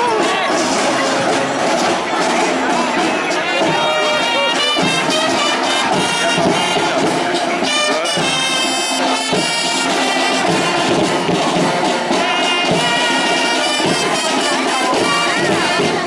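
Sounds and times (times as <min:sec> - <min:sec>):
side drums and bass drum: 0:00.0 - 0:16.0.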